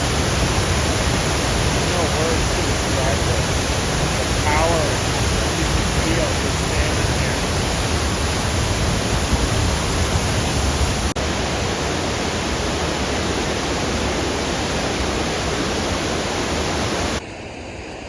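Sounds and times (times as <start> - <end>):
waterfall roaring: 0.0 - 17.2.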